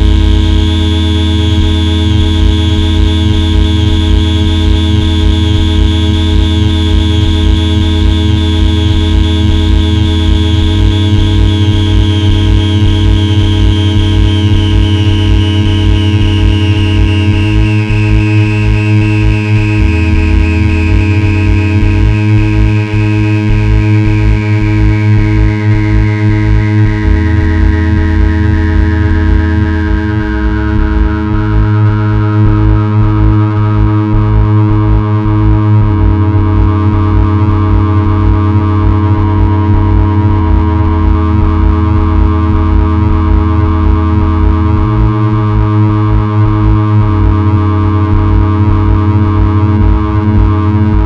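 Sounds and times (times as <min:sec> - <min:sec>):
buzzing electronic drone: 0:00.0 - 0:51.0
throbbing low hum: 0:00.0 - 0:51.0.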